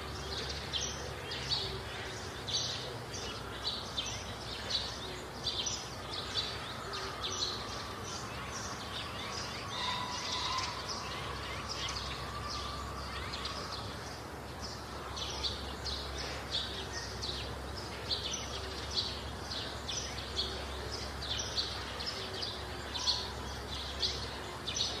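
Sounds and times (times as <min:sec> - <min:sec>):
background hiss and low hum: 0:00.0 - 0:25.0
small birds chirping: 0:00.0 - 0:25.0.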